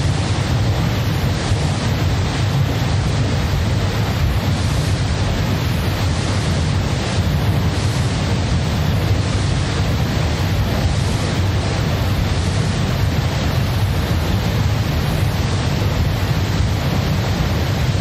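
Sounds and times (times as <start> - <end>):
dense rush of noise: 0.0 - 18.0.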